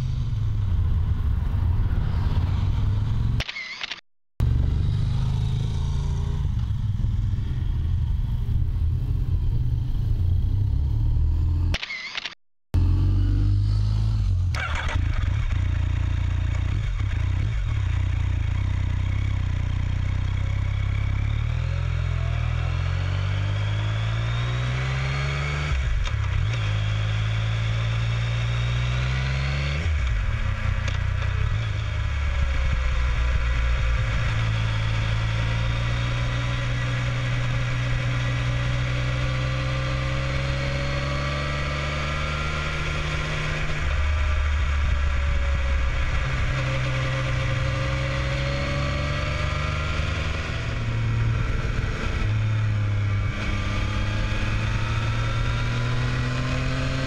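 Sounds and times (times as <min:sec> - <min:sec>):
motorcycle engine accelerating: 0:00.0 - 0:03.5, 0:04.4 - 0:11.8, 0:12.8 - 0:57.0.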